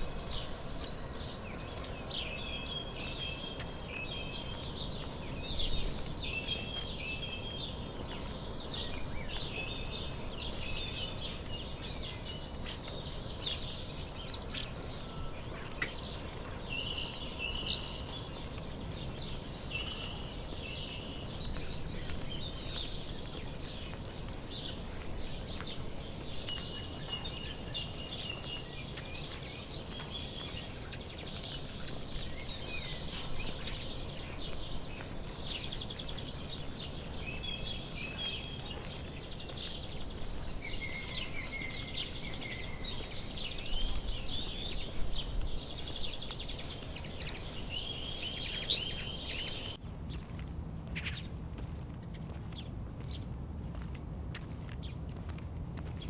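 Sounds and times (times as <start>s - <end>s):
birds chirping and trilling: 0.0s - 50.4s.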